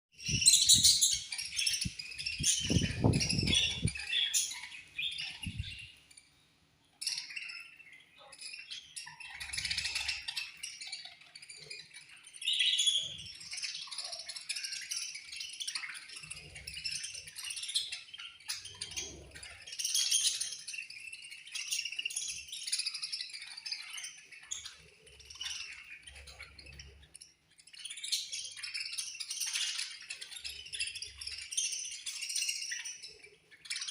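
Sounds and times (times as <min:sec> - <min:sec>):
budgerigars chirping: 0:00.2 - 0:33.9.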